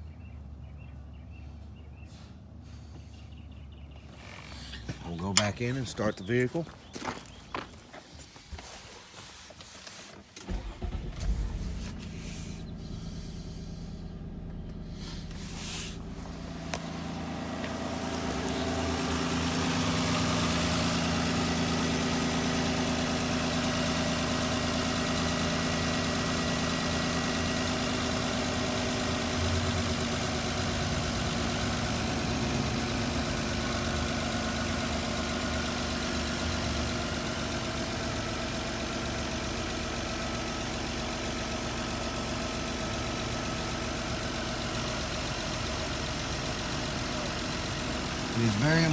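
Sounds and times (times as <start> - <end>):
car engine cranking and idling: 2.4 - 48.9.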